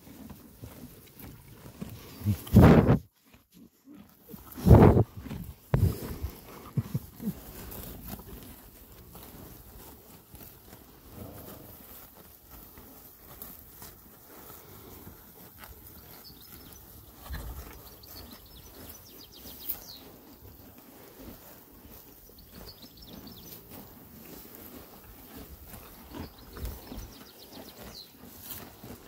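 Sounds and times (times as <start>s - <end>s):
horses chewing grass: 0.0s - 29.0s.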